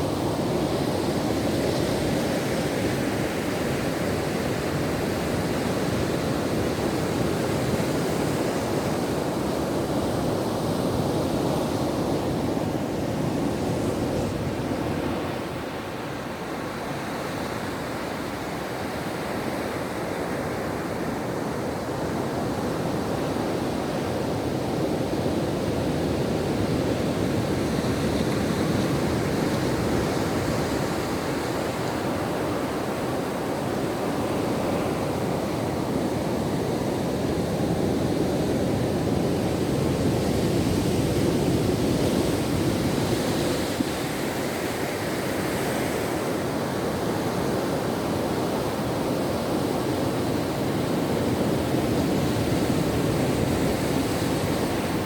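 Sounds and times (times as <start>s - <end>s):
ocean surf washing on shore: 0.0s - 55.0s.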